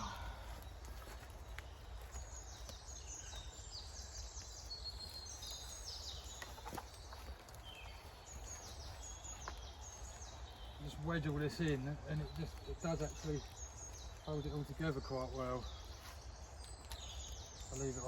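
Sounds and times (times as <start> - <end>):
songbirds twittering: 0.0 - 18.0.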